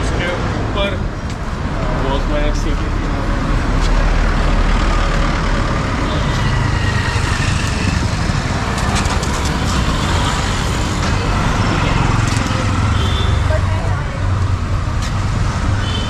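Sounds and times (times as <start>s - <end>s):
trucks passing: 0.0s - 15.9s
passing vehicles rumbling: 0.0s - 16.0s.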